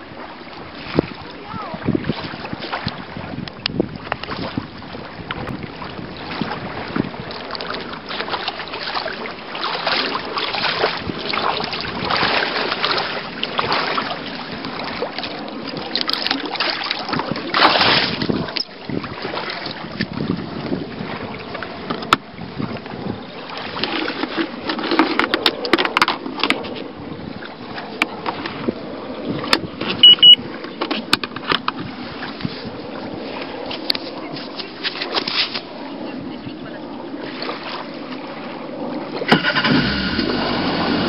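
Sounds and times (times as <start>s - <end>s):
shallow water lapping and splashing: 0.0s - 41.0s
wind buffeting microphone: 0.0s - 41.0s.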